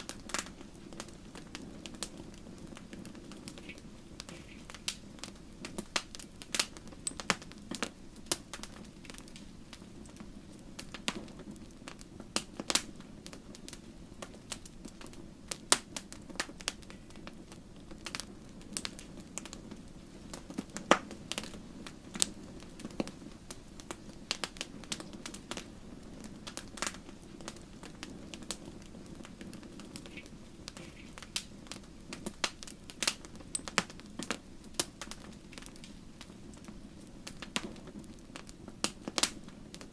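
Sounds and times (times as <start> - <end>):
logs crackling and popping: 0.0 - 39.9
low rush of flame: 0.0 - 39.9.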